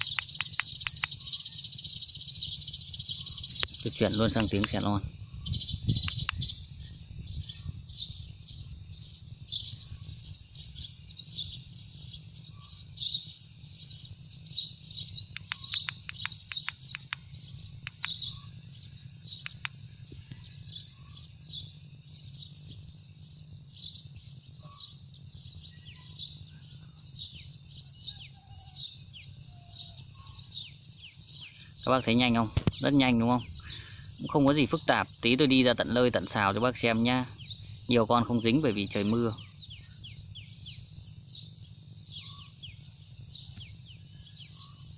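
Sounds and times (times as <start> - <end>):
recorded sparrow chirps: 0.0 - 44.9.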